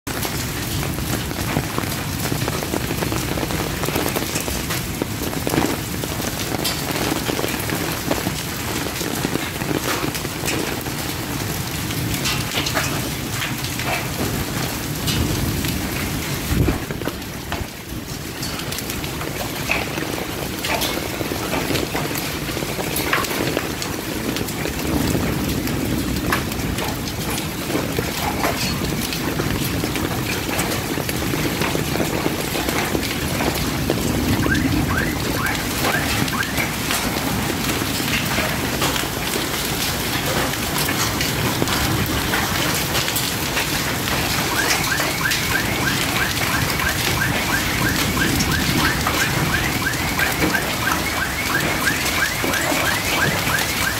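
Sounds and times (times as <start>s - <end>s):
heavy rain and sleet pelting: 0.0s - 53.9s.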